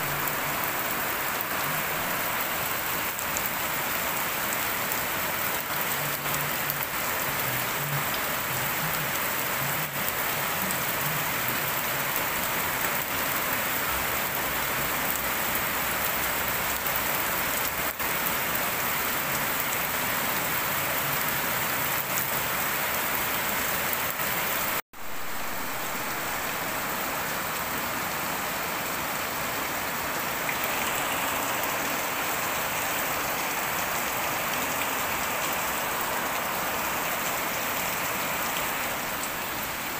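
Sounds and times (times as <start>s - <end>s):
rain falling on wet concrete: 0.0s - 39.9s.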